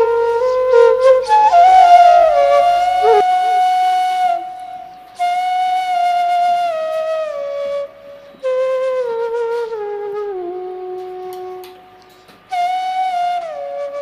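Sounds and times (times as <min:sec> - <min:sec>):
slow flute melody: 0:00.0 - 0:14.0.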